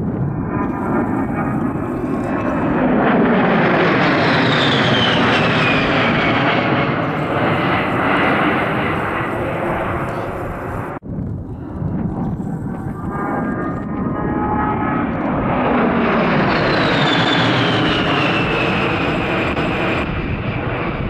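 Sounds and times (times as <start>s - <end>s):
jet passing overhead: 0.0s - 21.0s.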